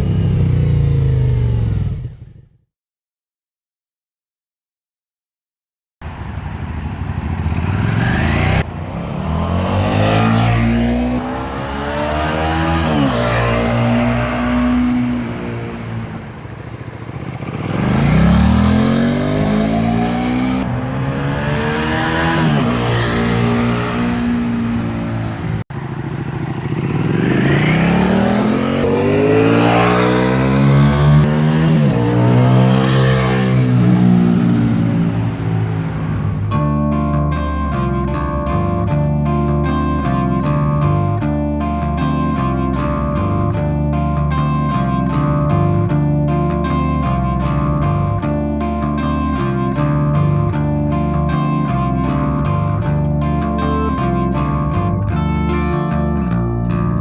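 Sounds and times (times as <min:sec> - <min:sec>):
motorcycle engine accelerating: 0:00.0 - 0:02.7, 0:06.0 - 0:57.0.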